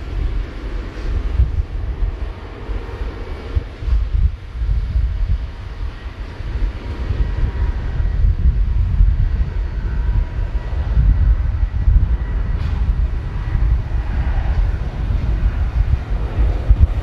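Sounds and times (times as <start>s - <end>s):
jet engines rumbling with whine: 0.0s - 17.0s.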